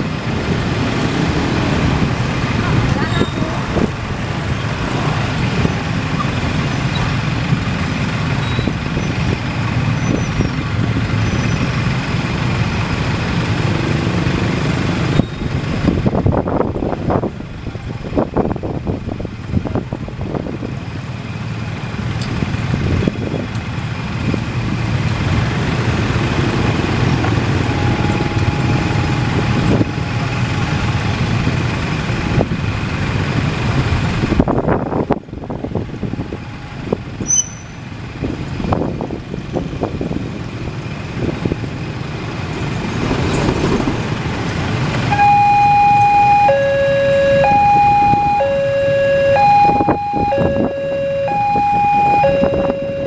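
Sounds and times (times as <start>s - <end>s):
cars passing: 0.0s - 53.0s
motorcycles passing: 0.0s - 53.0s.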